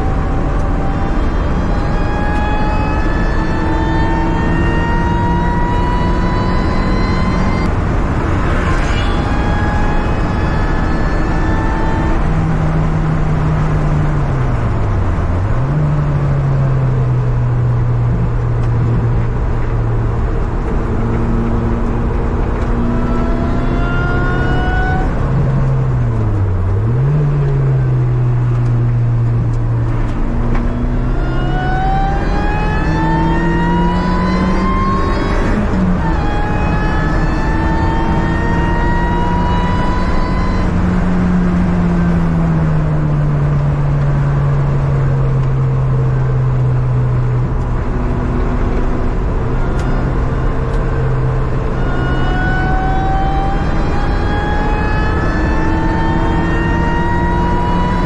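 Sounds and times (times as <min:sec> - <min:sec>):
car engine revving at speed: 0:00.0 - 0:58.0
wind and road noise: 0:00.0 - 0:58.0.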